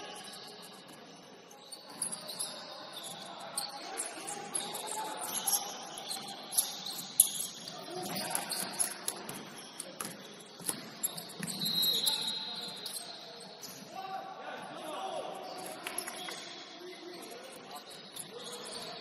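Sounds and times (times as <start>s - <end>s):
sneakers squeaking on court: 0.2s - 13.9s, 15.4s - 19.0s.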